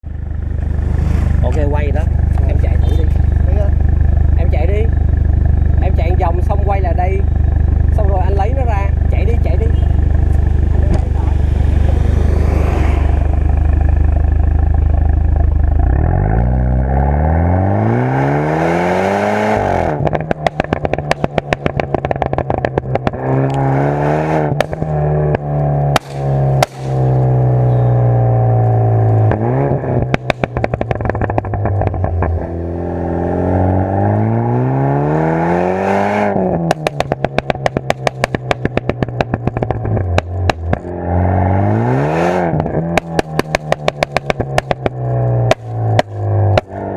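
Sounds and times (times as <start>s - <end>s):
exhaust crackles and pops: 0.0s - 16.9s, 19.5s - 23.7s, 24.4s - 32.7s, 36.3s - 41.0s, 42.4s - 46.9s
car engine revving: 0.0s - 46.9s.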